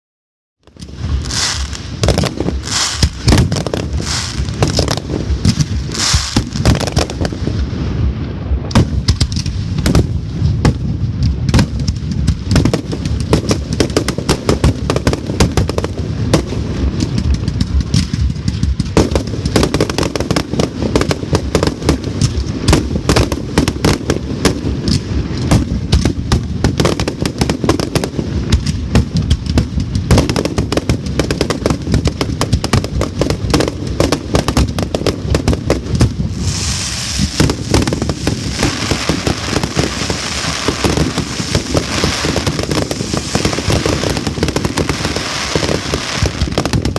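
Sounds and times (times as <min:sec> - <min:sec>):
fireworks bangs and crackles: 0:00.6 - 0:46.9.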